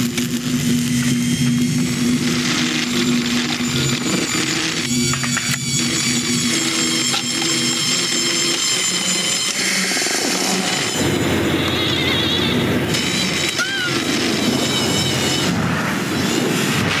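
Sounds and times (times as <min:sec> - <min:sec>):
toy car electric motor whining: 0:00.0 - 0:16.4
heavy rumble: 0:00.0 - 0:17.0
rising and falling squeal: 0:00.6 - 0:17.0.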